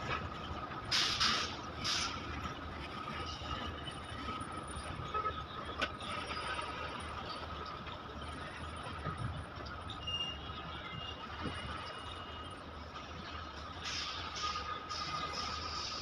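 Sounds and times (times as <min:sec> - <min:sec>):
train wagons rumbling on rails: 0:00.0 - 0:16.0.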